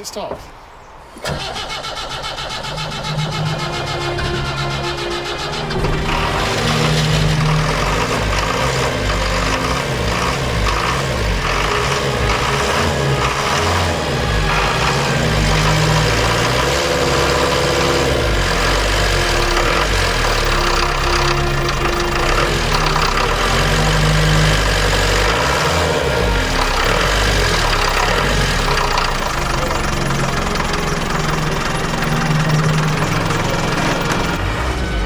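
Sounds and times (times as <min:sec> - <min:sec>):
diesel engine running: 0:01.2 - 0:35.0.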